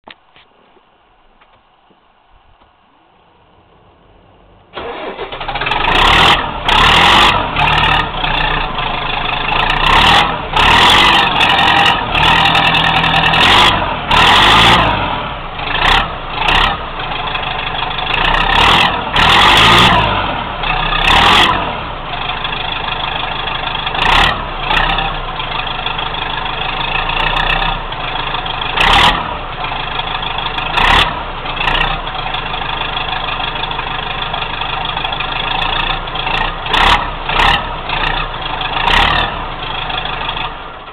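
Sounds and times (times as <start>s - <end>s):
tractor diesel engine revving: 3.2s - 40.9s.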